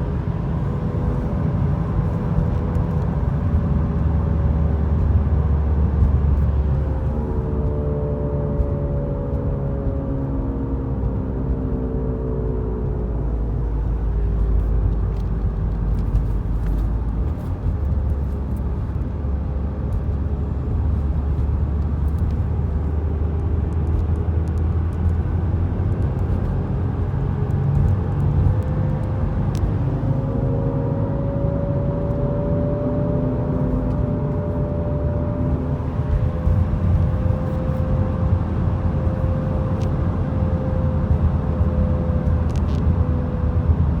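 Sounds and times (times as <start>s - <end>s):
low road rumble: 0.0s - 44.0s.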